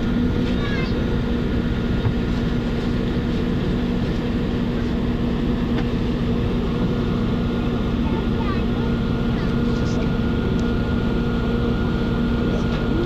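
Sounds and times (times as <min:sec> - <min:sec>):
road noise: 0:00.0 - 0:13.0
vehicle interior drone: 0:00.0 - 0:13.0.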